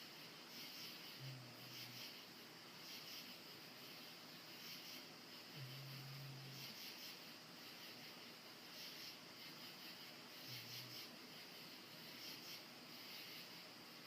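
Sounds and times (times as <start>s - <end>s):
dog breathing hiss: 0.0s - 14.0s.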